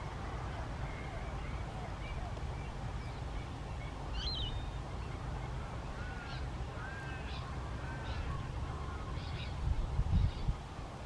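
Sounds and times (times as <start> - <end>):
birds calling: 0.4 - 9.6.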